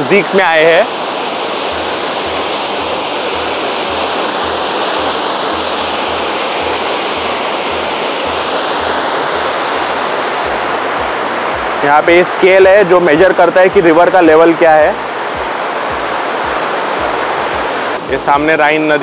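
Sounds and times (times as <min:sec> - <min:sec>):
waterfall rushing: 0:00.0 - 0:19.0
low beat: 0:00.8 - 0:18.5.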